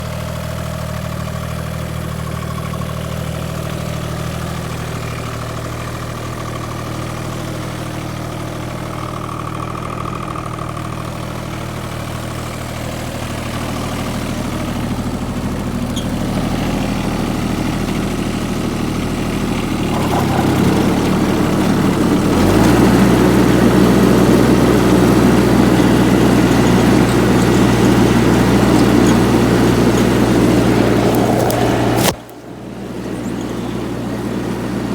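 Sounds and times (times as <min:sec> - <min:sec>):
diesel mower engine idling: 0:00.0 - 0:34.9.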